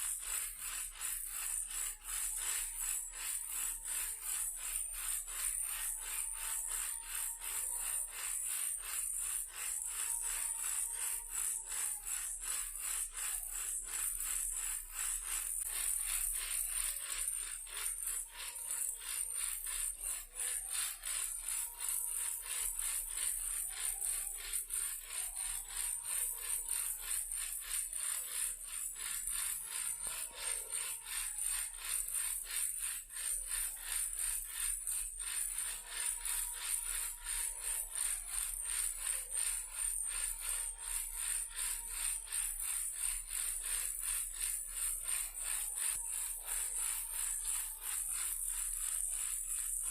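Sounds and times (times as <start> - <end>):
toy car rattling: 0.0 - 49.9.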